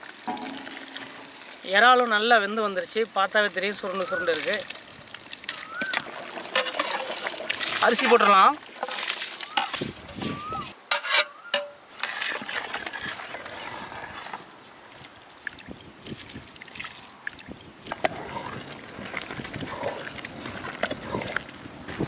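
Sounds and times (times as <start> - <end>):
ladle stirring boiling water: 0.0 - 22.0.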